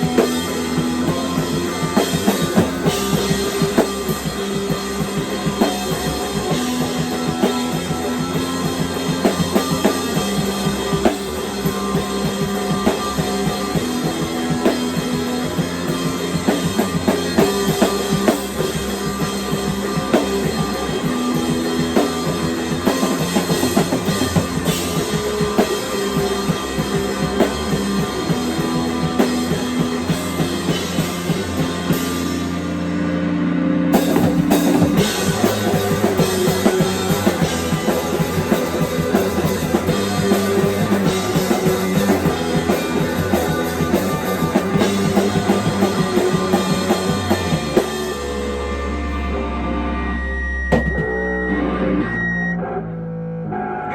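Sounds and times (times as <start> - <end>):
rock music with drum beat: 0.0 - 49.4, 50.7 - 51.4.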